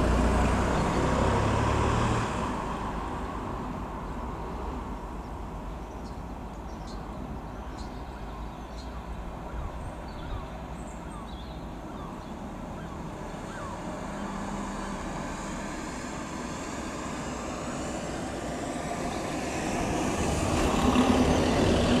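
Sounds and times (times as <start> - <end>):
helicopter flying overhead: 0.0 - 22.0.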